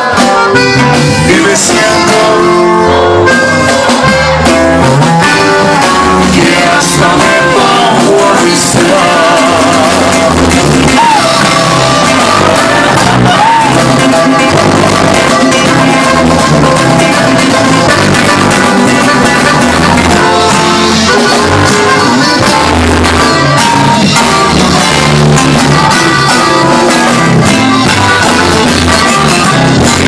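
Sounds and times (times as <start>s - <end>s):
accordion: 0.0s - 30.0s
bajo sexto guitar: 0.0s - 30.0s
drum kit: 0.0s - 30.0s.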